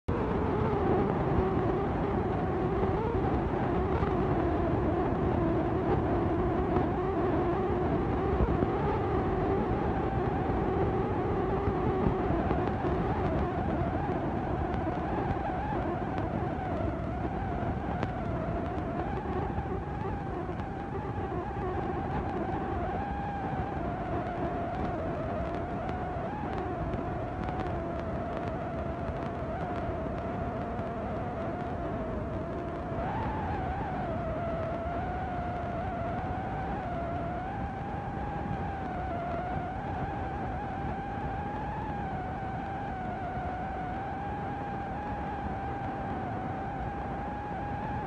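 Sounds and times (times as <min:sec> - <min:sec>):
machine drone: 0:00.1 - 0:48.0.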